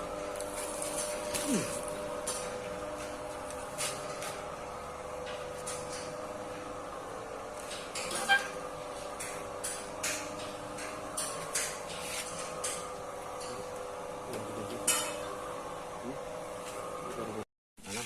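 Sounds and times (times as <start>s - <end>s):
motor hum: 0.0s - 18.0s.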